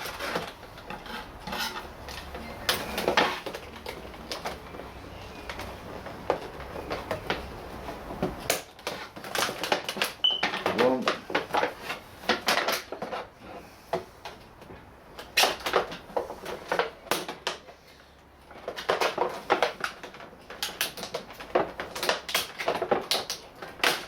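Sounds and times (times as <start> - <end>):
plastic packaging clicks and crinkles: 0.0 - 13.4, 14.0 - 24.0.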